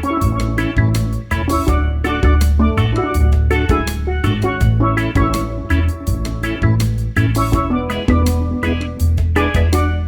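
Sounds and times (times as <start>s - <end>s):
upbeat island-style music: 0.0s - 10.0s.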